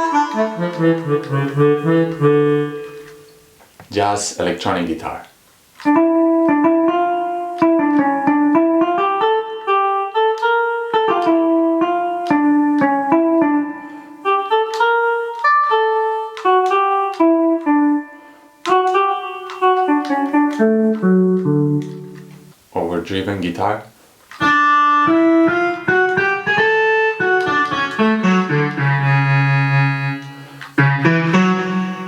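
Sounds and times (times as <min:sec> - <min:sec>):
electric guitar melody: 0:00.0 - 0:03.7, 0:05.8 - 0:22.7, 0:24.3 - 0:32.0.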